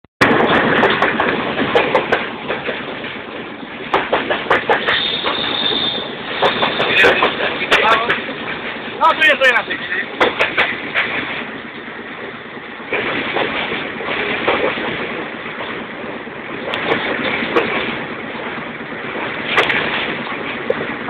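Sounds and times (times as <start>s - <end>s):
train rushing: 0.2s - 21.0s.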